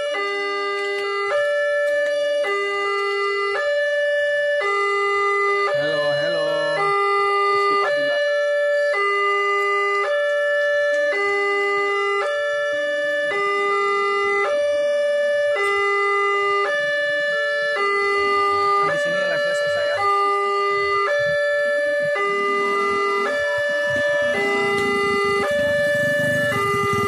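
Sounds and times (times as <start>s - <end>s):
two-tone crossing alarm: 0.0s - 27.0s.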